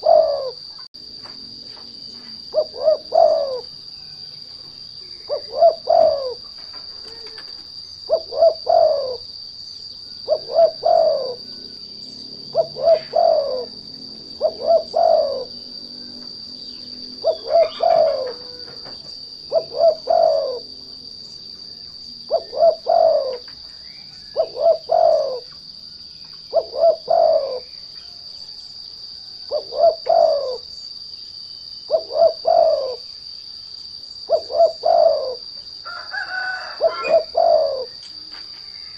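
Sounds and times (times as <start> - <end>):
turtle dove cooing: 0.0 - 0.9, 2.3 - 9.4, 10.1 - 30.8, 31.8 - 33.1, 34.2 - 38.0
high insect drone: 0.0 - 38.9.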